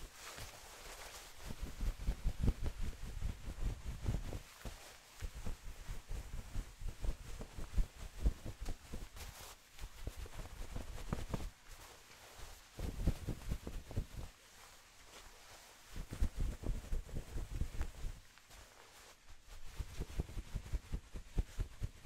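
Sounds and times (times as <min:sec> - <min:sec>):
towel rubbing against microphone: 0:00.0 - 0:22.0.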